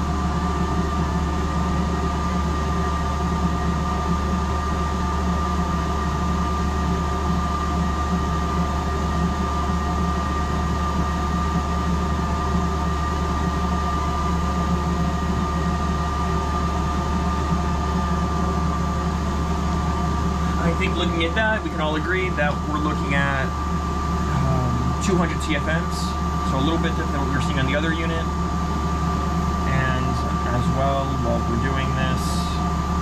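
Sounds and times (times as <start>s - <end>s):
air conditioner hum and whine: 0.0s - 33.0s.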